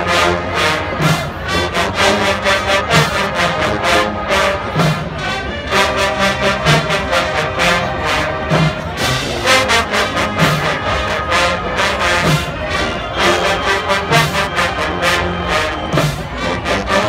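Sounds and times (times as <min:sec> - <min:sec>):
marching band playing loudly: 0:00.0 - 0:17.0.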